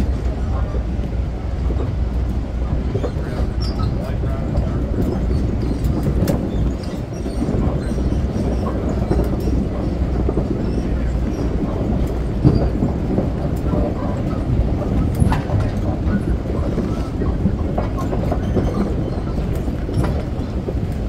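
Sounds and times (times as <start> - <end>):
tram wheels rumbling over planks: 0.0 - 21.0.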